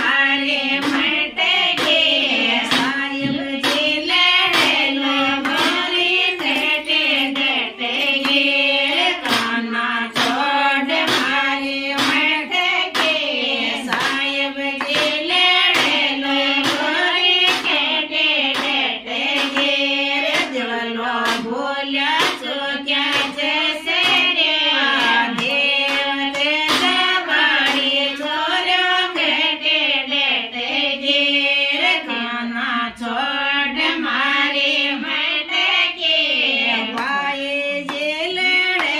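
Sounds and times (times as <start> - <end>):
hand claps: 0.0 - 29.9, 36.8 - 38.9
women singing folk song: 0.0 - 38.9.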